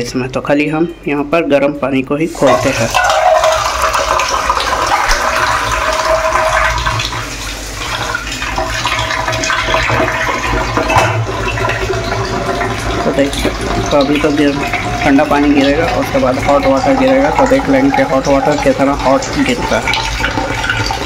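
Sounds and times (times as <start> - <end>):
tap water splashing into sink: 2.4 - 21.0.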